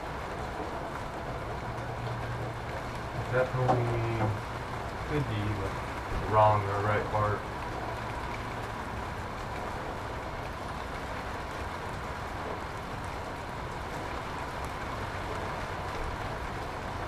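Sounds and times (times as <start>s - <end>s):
background rumble and hiss: 0.0s - 17.0s.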